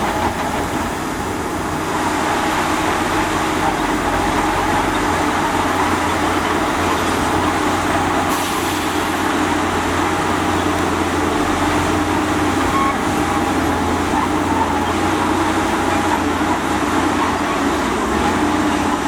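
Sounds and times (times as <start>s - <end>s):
diesel engine droning under load: 0.0s - 19.0s.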